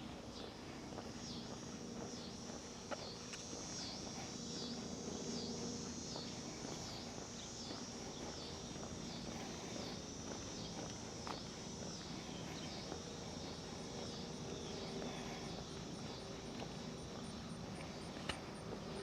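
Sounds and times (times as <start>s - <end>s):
insects buzzing and chirping: 0.0s - 19.0s
soft footsteps: 0.0s - 19.0s.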